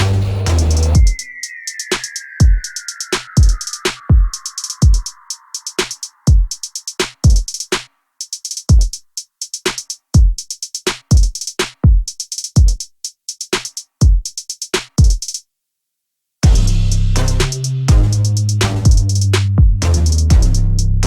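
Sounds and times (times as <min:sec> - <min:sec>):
drum machine beat: 0:00.0 - 0:15.4, 0:16.4 - 0:21.0.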